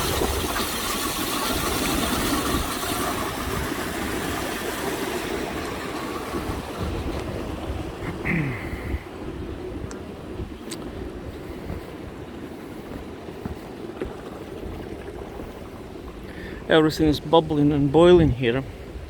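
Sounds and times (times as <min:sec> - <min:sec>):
hissing steam vents: 0:00.0 - 0:19.0
wind on microphone: 0:00.0 - 0:19.0.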